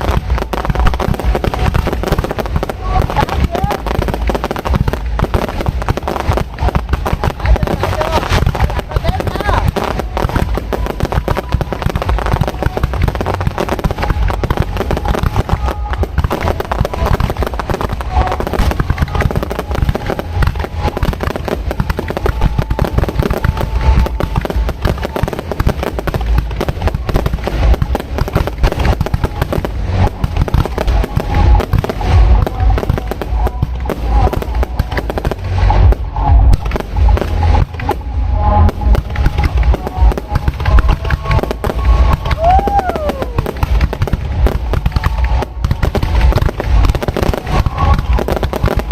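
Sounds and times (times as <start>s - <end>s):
fireworks bangs and crackles: 0.0s - 48.9s
fireworks low booms: 0.0s - 48.9s.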